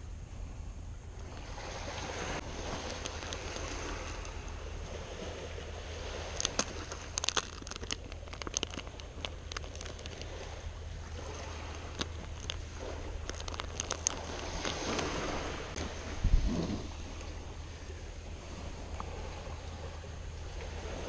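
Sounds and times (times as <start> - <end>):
wind and surf: 0.0 - 21.0
wind rumble on microphone: 0.0 - 21.0.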